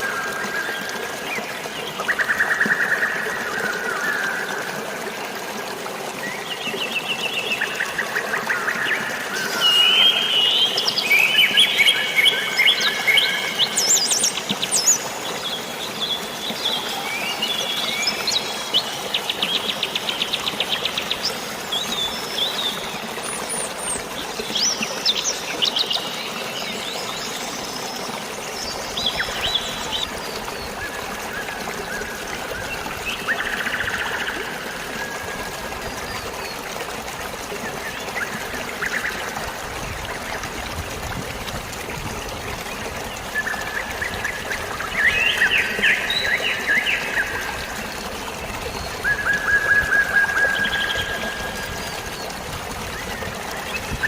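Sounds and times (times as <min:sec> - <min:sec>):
running water and rain hiss: 0:00.0 - 0:54.0.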